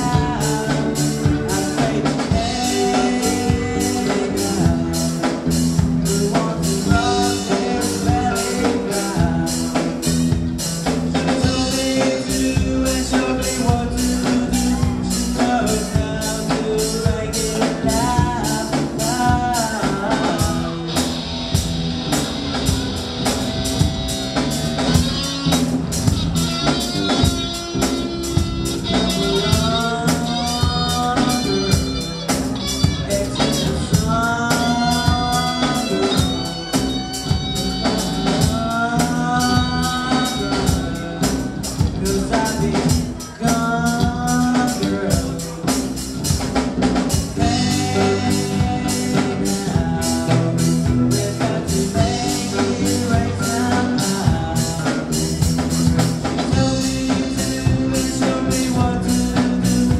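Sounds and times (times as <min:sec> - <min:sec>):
person singing: 0:00.0 - 0:21.5, 0:24.4 - 0:59.9
bass line: 0:00.0 - 0:59.9
drum beat: 0:00.0 - 0:59.9.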